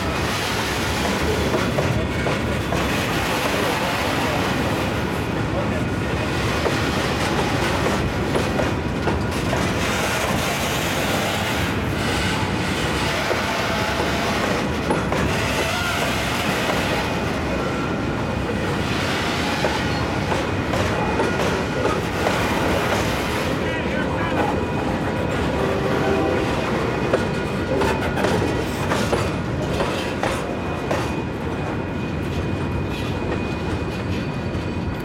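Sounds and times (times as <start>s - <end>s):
freight train wheels clicking: 0.0s - 23.6s, 24.3s - 35.0s.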